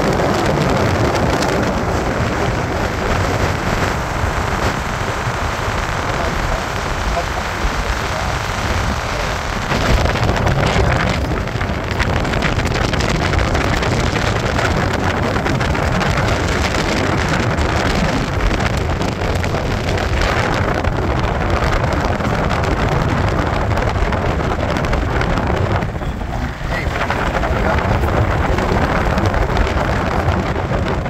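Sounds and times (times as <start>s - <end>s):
vehicle road noise: 0.0s - 31.0s
wind buffeting microphone: 0.0s - 31.0s.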